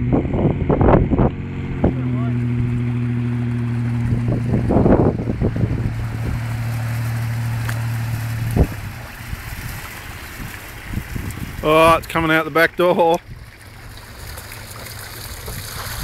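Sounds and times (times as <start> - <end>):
vehicle engine running: 0.0 - 16.0
water splashing and sloshing: 0.0 - 16.0.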